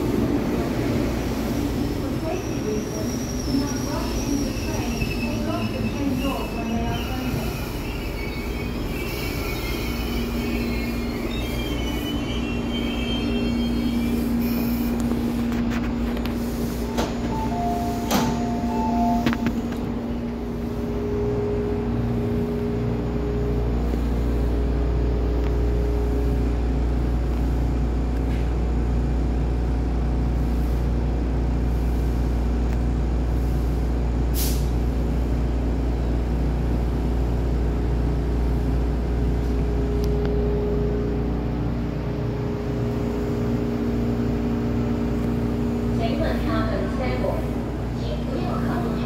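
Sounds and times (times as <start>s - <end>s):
train rumble inside carriage: 0.0s - 49.0s.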